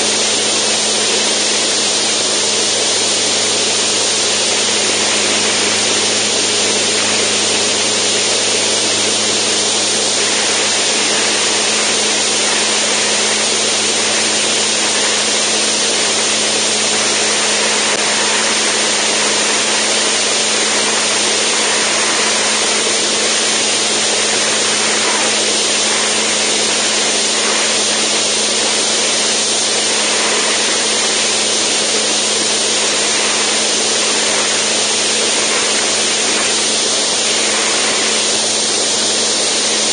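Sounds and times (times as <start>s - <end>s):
air rushing across microphone: 0.0s - 39.9s
aircraft engine and propeller drone: 0.0s - 39.9s.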